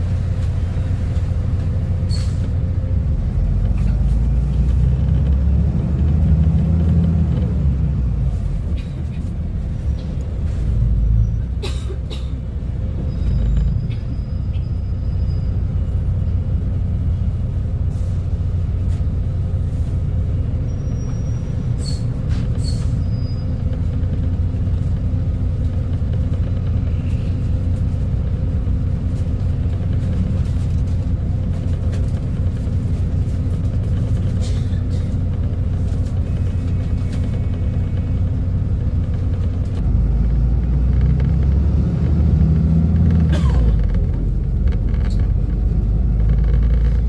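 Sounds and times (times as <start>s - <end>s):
bus diesel engine droning: 0.0s - 47.0s.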